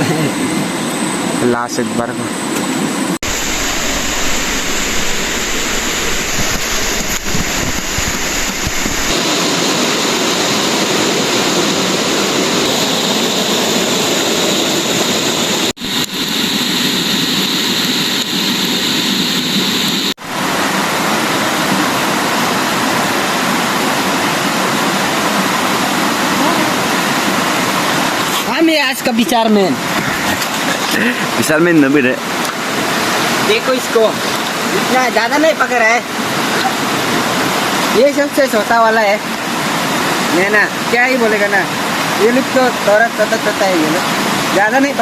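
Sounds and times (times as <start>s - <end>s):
rushing stream water: 3.2s - 45.0s.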